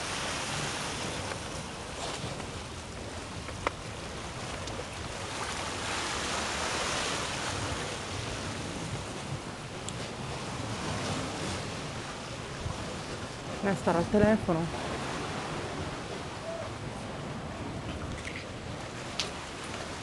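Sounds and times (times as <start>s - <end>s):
surf washing against rocks: 0.0s - 20.0s.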